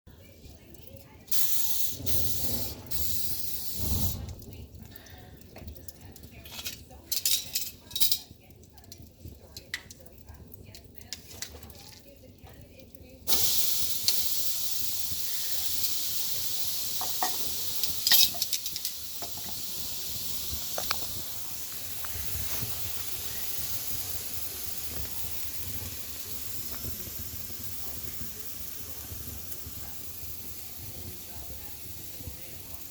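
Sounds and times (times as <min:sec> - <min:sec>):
food sizzling over wood fire: 0:00.1 - 0:32.9.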